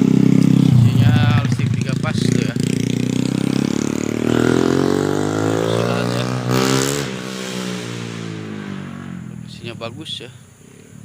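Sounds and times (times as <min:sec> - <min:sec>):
vehicle engine accelerating: 0:00.0 - 0:09.9.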